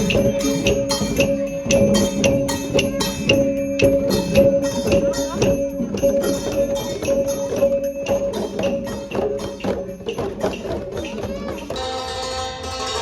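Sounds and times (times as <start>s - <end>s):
traditional ensemble music: 0.0s - 13.0s.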